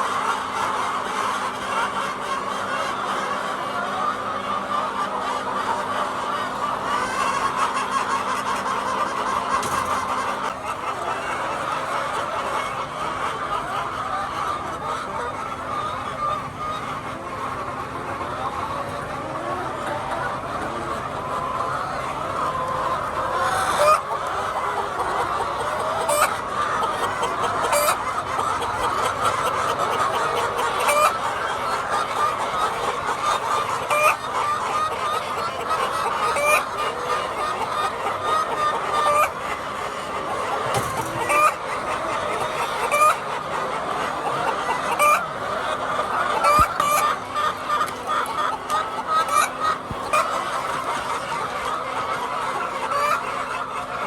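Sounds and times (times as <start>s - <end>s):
hens clucking: 0.0s - 54.0s.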